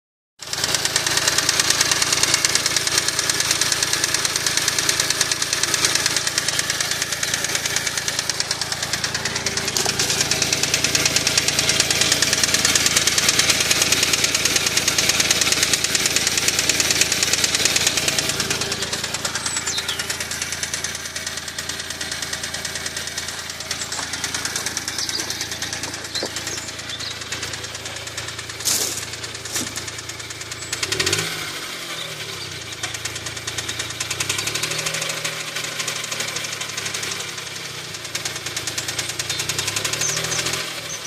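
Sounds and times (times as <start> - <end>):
engine running with rapid knock: 0.4 - 41.0.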